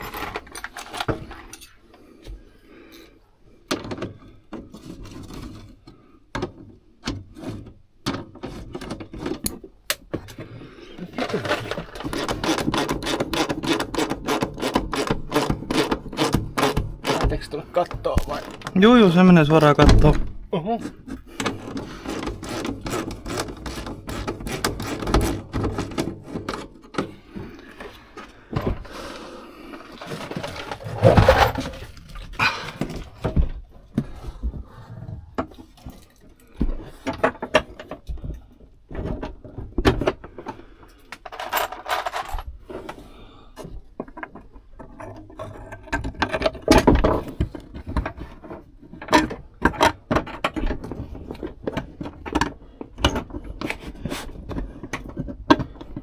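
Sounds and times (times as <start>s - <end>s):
clicks knocks and scrapes of parts: 0.0s - 2.5s, 3.7s - 56.0s.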